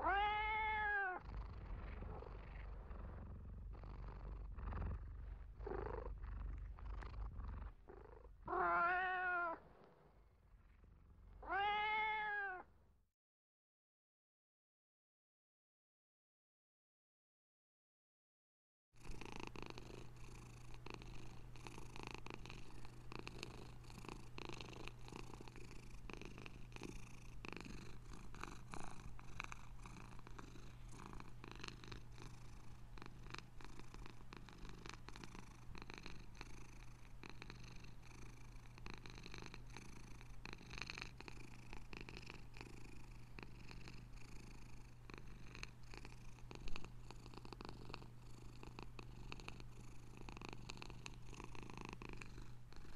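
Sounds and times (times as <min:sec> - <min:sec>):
cat purring: 0:00.0 - 0:12.6, 0:19.0 - 0:52.9.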